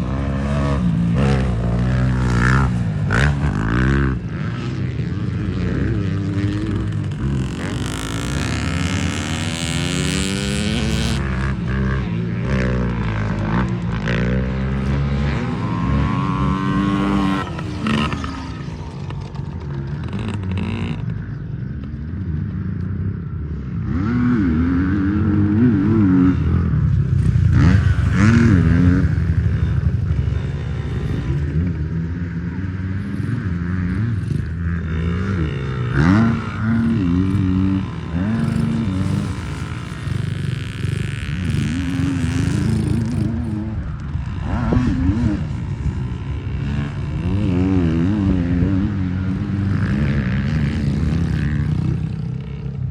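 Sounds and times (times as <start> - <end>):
small two-stroke engines revving: 0.0 - 52.9.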